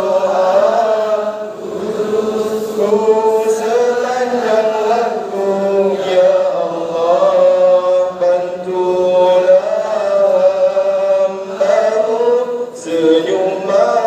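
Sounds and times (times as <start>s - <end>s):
group chanting a prayer: 0.0s - 14.0s.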